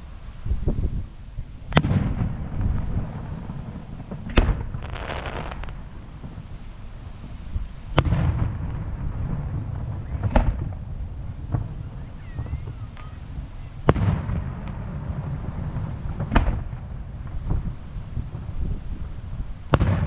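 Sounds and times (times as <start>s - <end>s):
firework crackling shower: 0.0s - 20.0s
firework shells booming: 1.7s - 20.0s.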